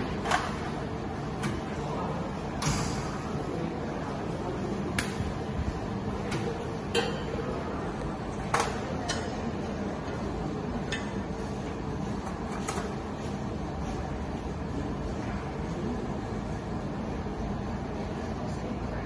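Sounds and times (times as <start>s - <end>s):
workshop hum: 0.0s - 19.0s.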